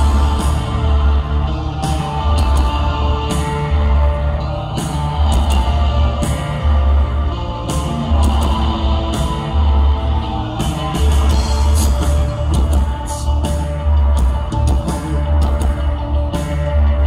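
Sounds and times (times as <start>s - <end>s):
bass line: 0.0s - 17.0s
electric guitar: 0.0s - 17.0s
rock band playing: 0.0s - 17.0s.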